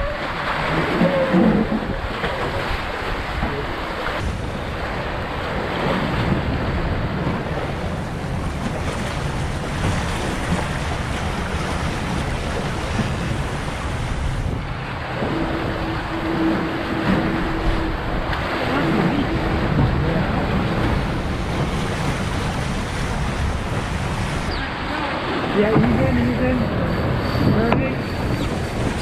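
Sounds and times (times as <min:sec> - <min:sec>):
water rushing along hulls: 0:00.0 - 0:29.0
wind buffeting microphone: 0:00.0 - 0:29.0.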